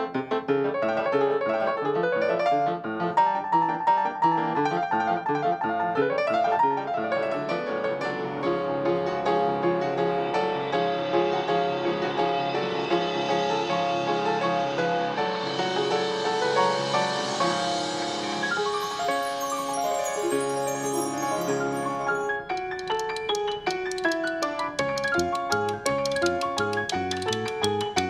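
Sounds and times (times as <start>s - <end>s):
piano played fast: 0.0s - 28.0s.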